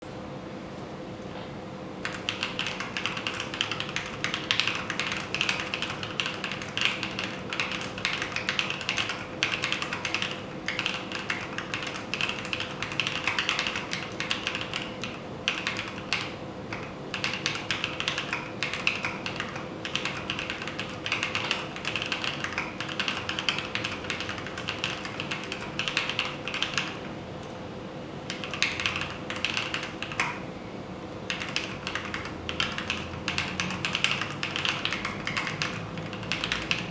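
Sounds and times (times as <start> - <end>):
fast typing on mechanical keyboard: 2.0 - 27.2, 28.3 - 30.4, 31.3 - 36.9.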